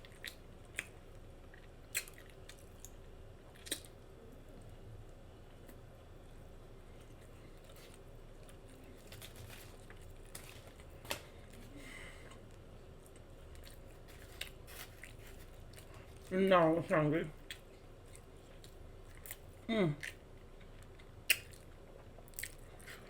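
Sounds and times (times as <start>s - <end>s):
person chewing with wet smacking: 0.0s - 5.8s, 6.8s - 16.6s, 17.4s - 23.0s.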